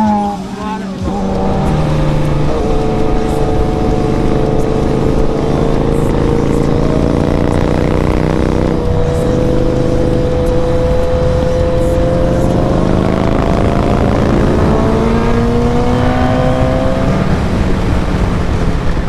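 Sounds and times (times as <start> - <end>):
motorcycle engine at speed: 0.0 - 19.0
wind noise: 1.0 - 19.0.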